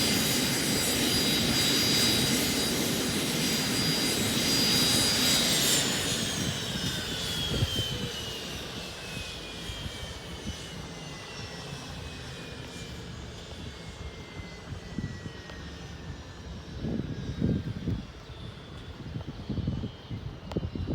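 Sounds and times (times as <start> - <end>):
jet engines spooling down: 0.0 - 20.9.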